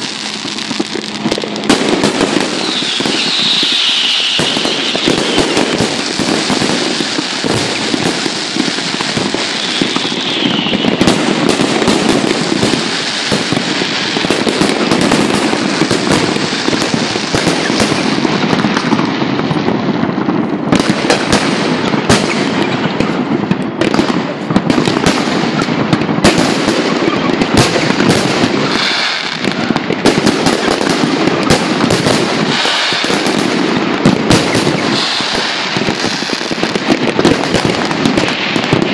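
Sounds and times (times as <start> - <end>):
fireworks shells bursting: 0.0 - 19.1, 24.8 - 38.9.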